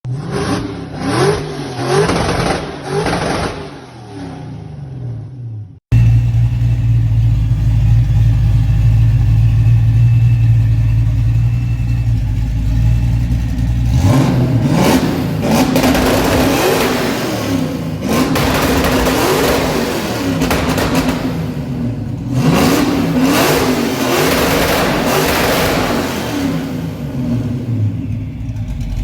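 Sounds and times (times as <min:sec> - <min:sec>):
engine idling and revving: 0:00.0 - 0:29.0.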